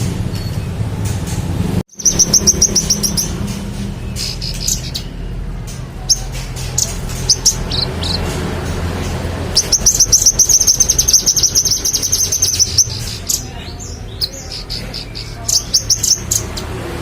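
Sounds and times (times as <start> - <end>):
songbird chirping and trilling: 1.9 - 17.0.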